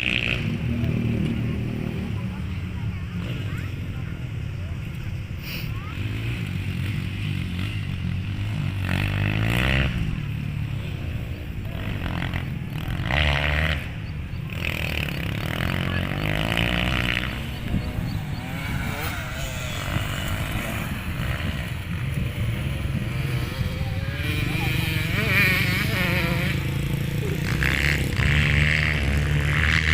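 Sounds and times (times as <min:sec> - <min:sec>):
dirt bike engines revving: 0:00.0 - 0:29.9.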